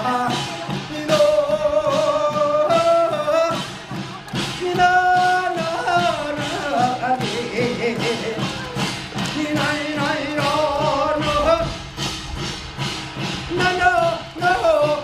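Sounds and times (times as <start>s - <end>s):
drum and cymbal strokes: 0.0s - 15.0s.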